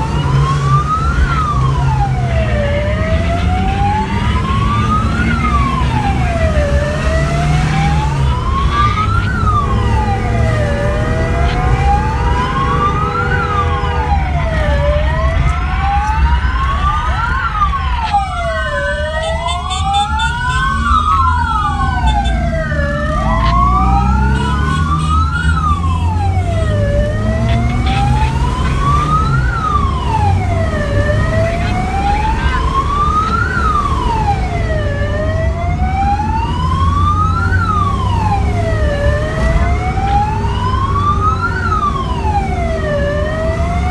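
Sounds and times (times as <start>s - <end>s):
emergency sirens wailing: 0.0s - 43.9s
vehicle engine and road noise: 0.0s - 43.9s.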